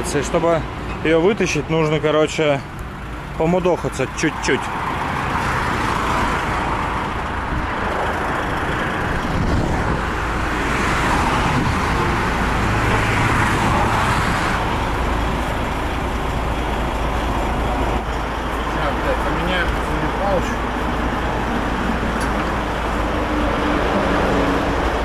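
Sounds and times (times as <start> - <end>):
highway traffic passing: 0.0 - 25.0.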